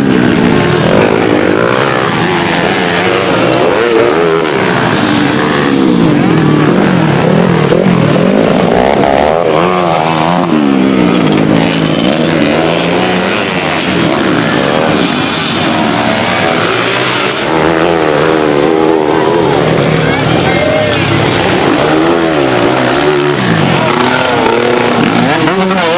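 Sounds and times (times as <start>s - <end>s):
racing motorcycle engines revving: 0.0s - 25.9s.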